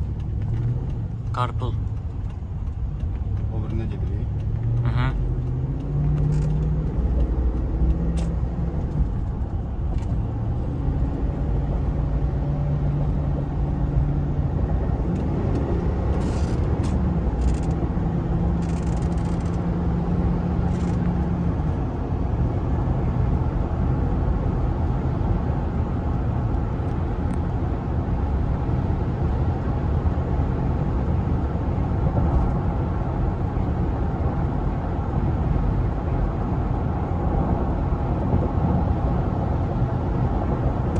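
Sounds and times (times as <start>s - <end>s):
car engine droning: 0.0s - 40.9s
road and tyre noise: 0.0s - 40.9s.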